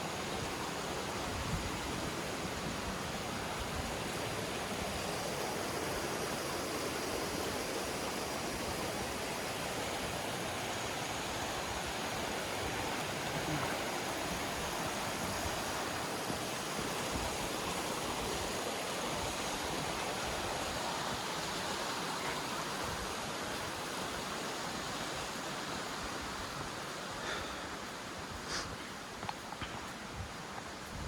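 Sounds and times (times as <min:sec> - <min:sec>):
waterfall roaring: 0:00.0 - 0:30.8.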